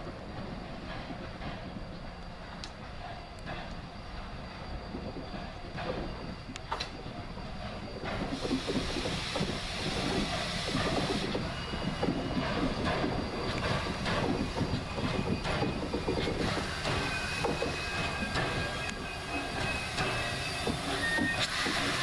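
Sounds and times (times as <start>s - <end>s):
steam locomotive exhaust chuffs: 0.0s - 22.0s
wheels squealing: 0.4s - 22.0s.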